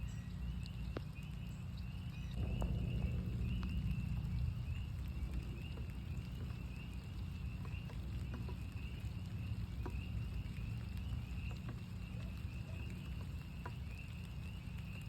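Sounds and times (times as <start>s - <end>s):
frogs peeping: 0.0s - 15.0s
raindrops ticking: 0.0s - 15.0s
steady low rumble: 0.0s - 15.0s.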